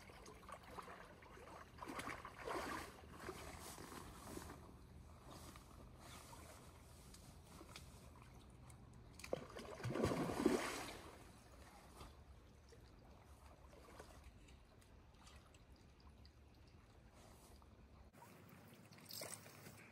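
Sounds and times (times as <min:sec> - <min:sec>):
river trickling: 0:00.0 - 0:04.5, 0:08.0 - 0:19.9
water splashing and sloshing: 0:00.0 - 0:19.9.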